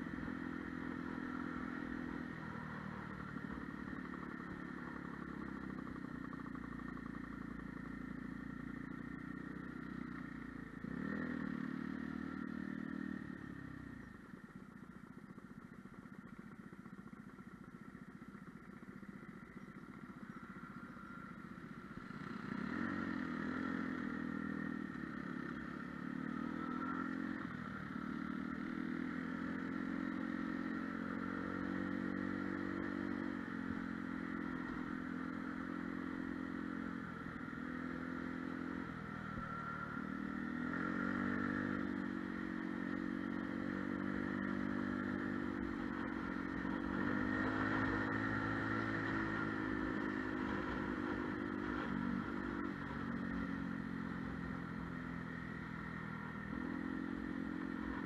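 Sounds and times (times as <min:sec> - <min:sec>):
scooter engine running: 0:00.0 - 0:58.0.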